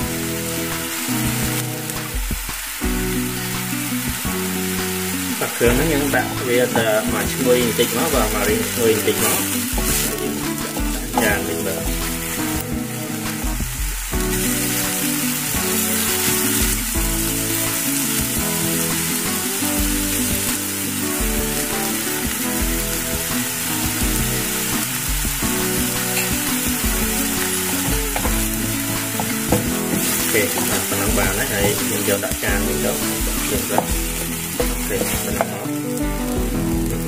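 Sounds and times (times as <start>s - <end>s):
background music: 0.0s - 37.0s
paste sizzling in frying pan: 0.0s - 37.0s.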